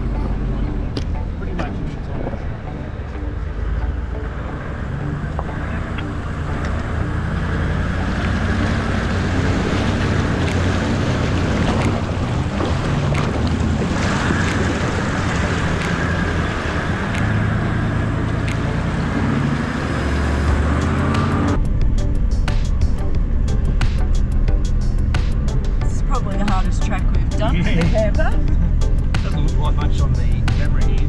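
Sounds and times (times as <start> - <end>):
vehicle engine running: 0.0 - 31.0
water rushing and splashing: 0.0 - 31.0.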